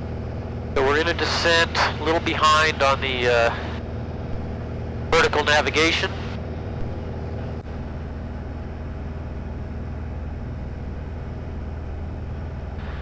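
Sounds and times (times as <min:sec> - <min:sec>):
aircraft propeller engine droning: 0:00.0 - 0:13.0.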